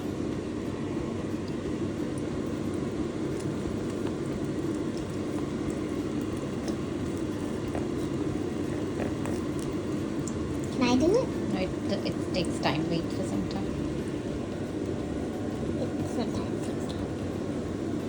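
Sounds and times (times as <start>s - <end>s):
eggs frying in hot oil: 0.0s - 18.0s
low rushing hum: 0.0s - 18.0s.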